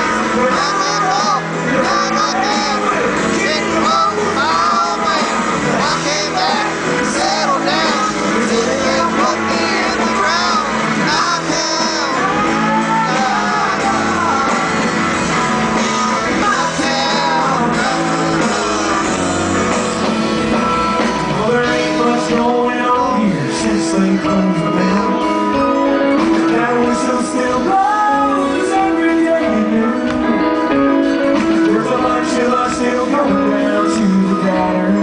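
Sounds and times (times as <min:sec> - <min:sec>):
man singing into microphone: 0:00.0 - 0:19.3, 0:21.2 - 0:35.0
bass guitar: 0:00.0 - 0:35.0
guitar: 0:00.0 - 0:35.0.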